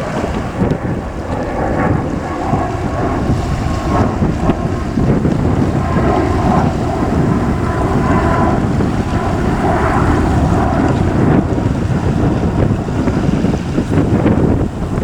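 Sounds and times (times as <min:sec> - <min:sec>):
jet roar at takeoff: 0:00.0 - 0:15.0
wind rumbling on microphone: 0:00.0 - 0:15.0.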